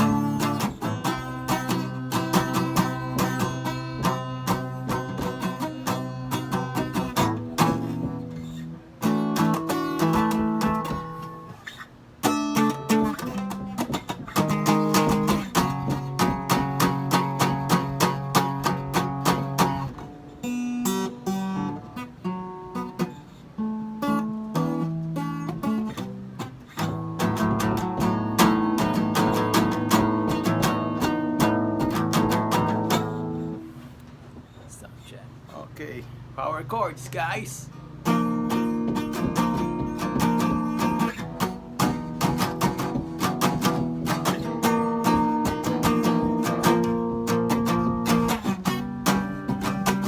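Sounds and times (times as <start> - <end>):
guitar strumming chords: 0.0 - 34.0, 36.5 - 50.0.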